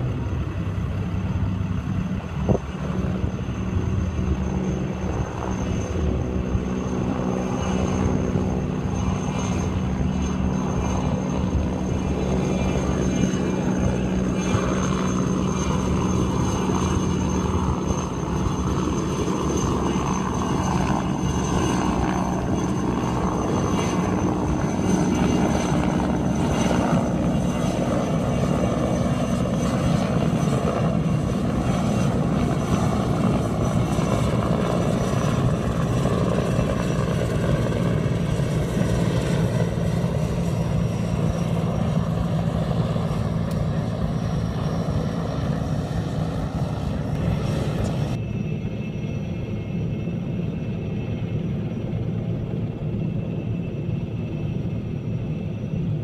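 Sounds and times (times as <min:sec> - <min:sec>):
helicopter rotors and engines: 0:00.0 - 0:56.0.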